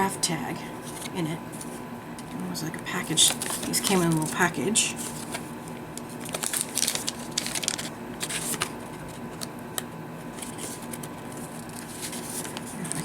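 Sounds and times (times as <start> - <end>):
paper and card rustling: 0.8 - 2.4, 3.0 - 13.0.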